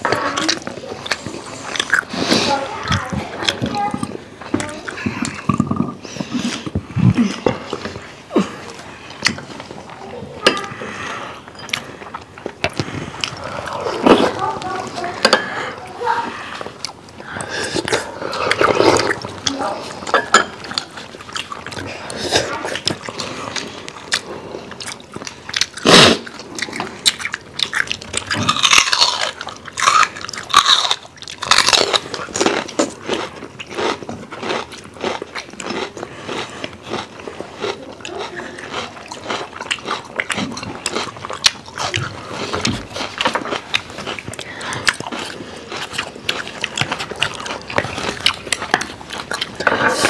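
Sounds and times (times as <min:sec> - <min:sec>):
people chewing and biting food: 0:00.0 - 0:50.0.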